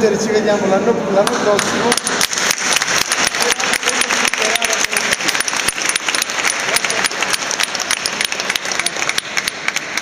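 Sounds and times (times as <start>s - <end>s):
people applauding: 1.3s - 10.0s.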